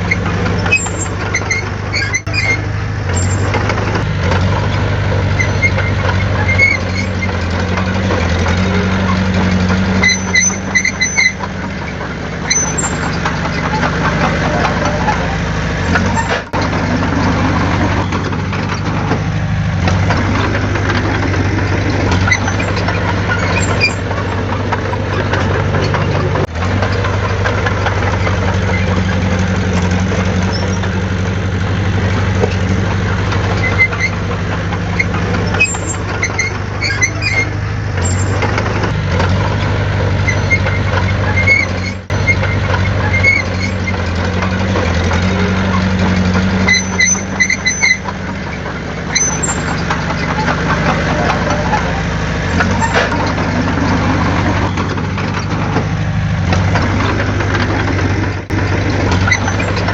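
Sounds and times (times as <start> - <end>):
short high squeaks: 0.0 - 4.1, 5.3 - 27.1, 27.9 - 31.1, 33.4 - 59.9
heavy diesel engine humming: 0.0 - 59.9.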